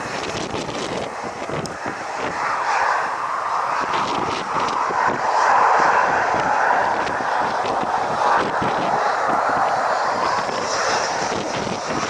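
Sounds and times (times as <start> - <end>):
jet engines roaring: 0.0 - 12.0
wind buffeting microphone: 0.0 - 12.0.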